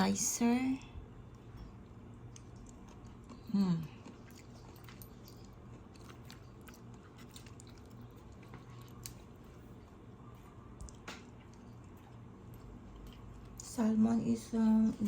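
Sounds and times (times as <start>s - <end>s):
faint low hum: 0.0s - 15.0s
person chewing food: 1.2s - 13.7s.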